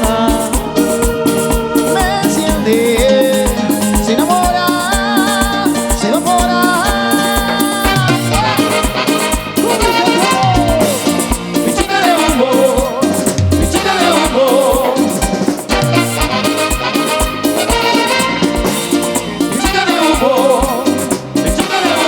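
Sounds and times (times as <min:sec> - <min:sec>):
salsa dance music: 0:00.0 - 0:22.0.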